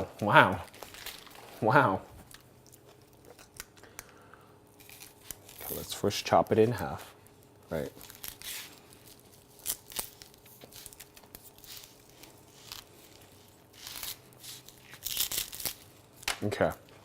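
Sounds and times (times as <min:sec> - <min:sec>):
onion skin crinkling: 0:02.2 - 0:06.1, 0:07.2 - 0:17.0.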